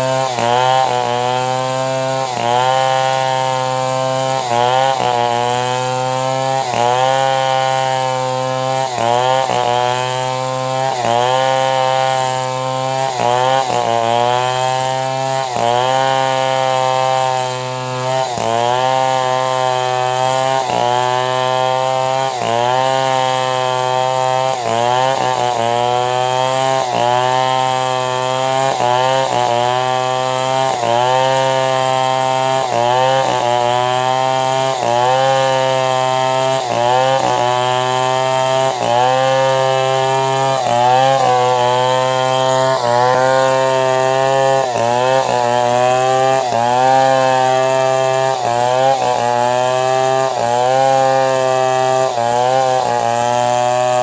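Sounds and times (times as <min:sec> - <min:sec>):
chainsaw ripping a log: 0:00.0 - 0:54.0.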